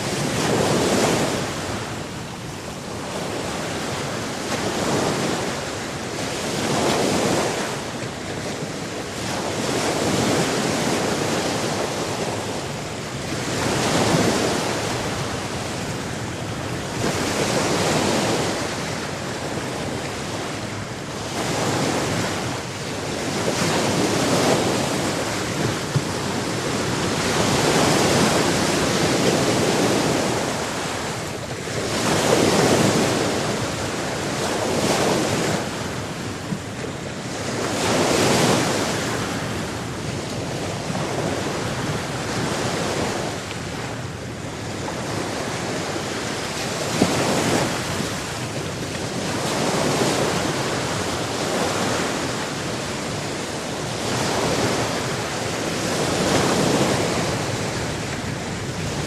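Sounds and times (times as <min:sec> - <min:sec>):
sea surf washing in: 0:00.0 - 0:59.0.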